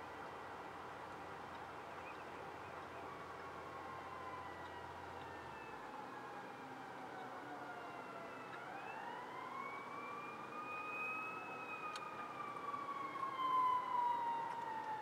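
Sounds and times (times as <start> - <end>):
emergency vehicle siren wailing: 2.4 - 15.0.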